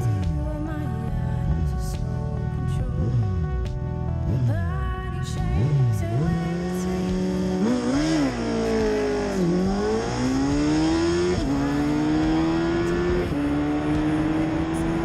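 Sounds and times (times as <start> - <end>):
truck exhaust revving and accelerating: 2.7 - 15.0.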